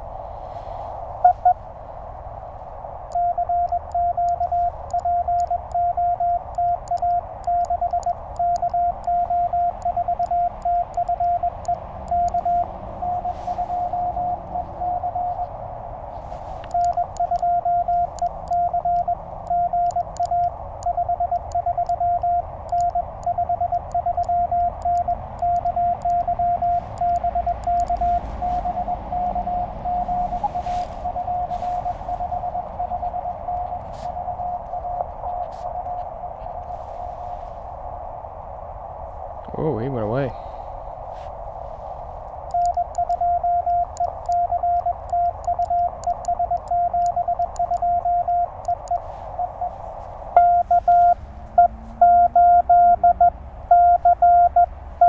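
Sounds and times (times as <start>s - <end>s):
radio band noise hiss: 0.0s - 51.9s
weaker morse signal: 0.0s - 55.0s
morse code tones: 1.1s - 1.7s, 3.0s - 36.4s, 42.4s - 55.0s.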